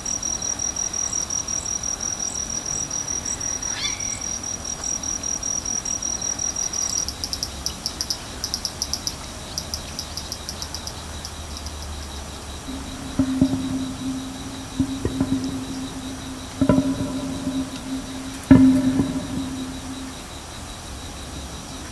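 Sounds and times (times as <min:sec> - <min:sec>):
insects trilling and chirping: 0:00.0 - 0:21.9.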